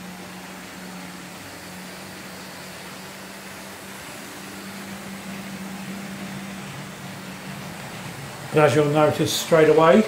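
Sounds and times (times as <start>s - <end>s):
model locomotive motor humming: 0.0s - 10.0s.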